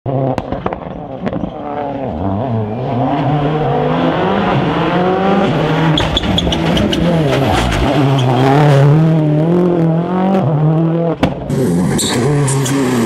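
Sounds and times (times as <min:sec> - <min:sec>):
rally car engine at full throttle: 0:00.1 - 0:13.0.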